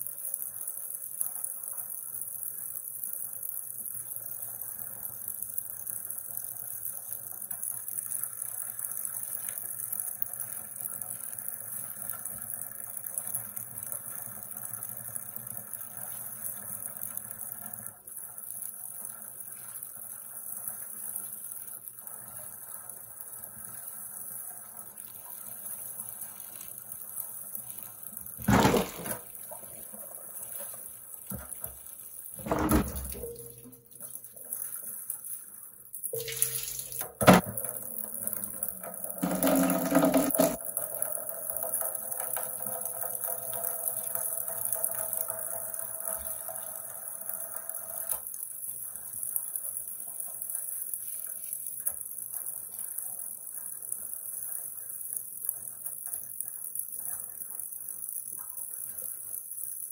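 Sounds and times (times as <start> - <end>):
tap water running into bucket: 0.0 - 59.9.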